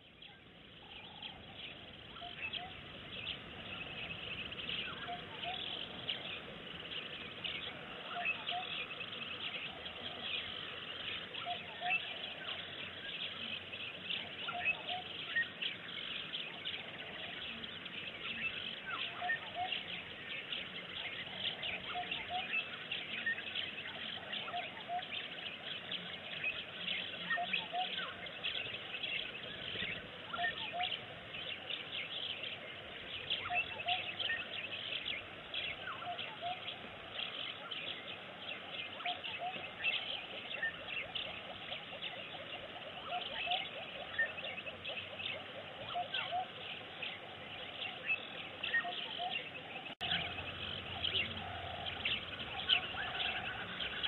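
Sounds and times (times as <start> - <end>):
steady background hiss: 0.0 - 54.0
wild birds chirping and calling: 0.0 - 54.0.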